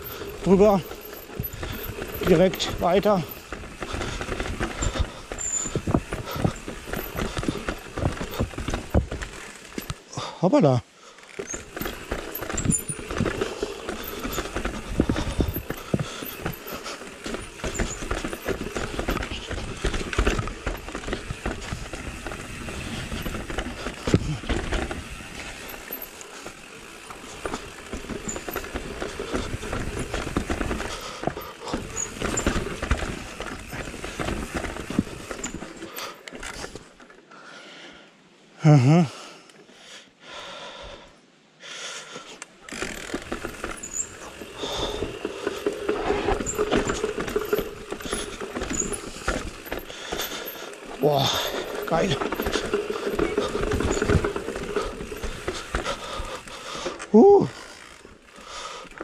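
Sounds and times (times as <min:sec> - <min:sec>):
bike rattling: 0:00.0 - 0:10.3, 0:11.0 - 0:37.3, 0:42.2 - 0:59.0.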